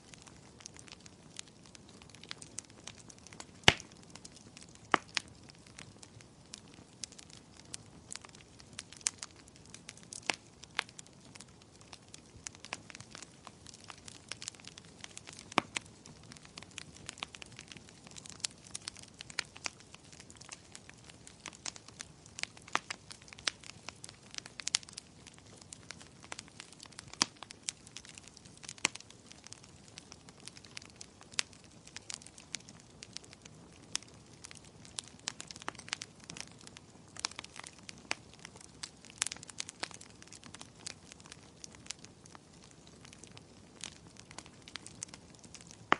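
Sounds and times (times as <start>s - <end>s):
soft steady hiss: 0.0s - 45.9s
wood fire crackling and popping: 0.0s - 45.9s.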